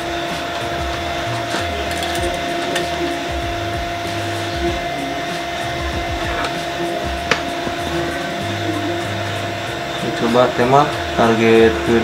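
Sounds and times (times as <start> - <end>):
machine-like hum: 0.0 - 12.0.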